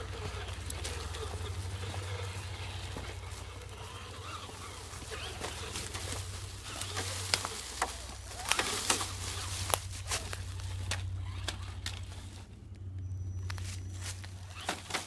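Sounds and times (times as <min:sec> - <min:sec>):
footsteps through leaves: 0:00.0 - 0:12.4, 0:13.4 - 0:15.0
dry leaves crunching: 0:00.0 - 0:15.0
steady low hum: 0:00.0 - 0:15.0.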